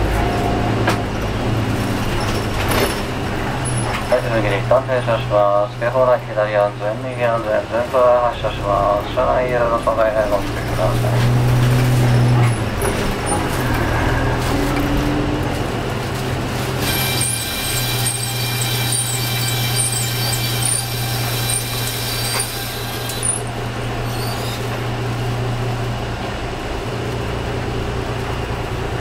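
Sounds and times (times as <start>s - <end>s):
bus diesel engine droning: 0.0s - 29.0s.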